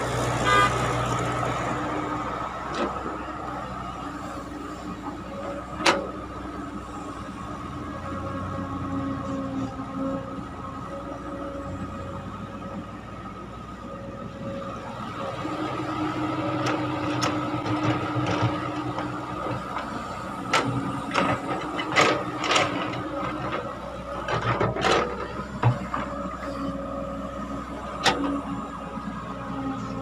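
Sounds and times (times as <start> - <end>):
excavator engine with whine: 0.0 - 30.0.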